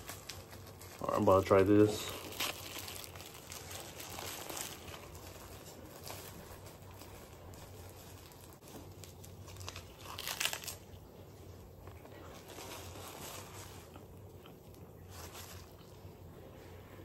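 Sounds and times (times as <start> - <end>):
plastic wrapper crinkling: 0.0 - 11.2, 11.8 - 14.1, 14.7 - 16.1.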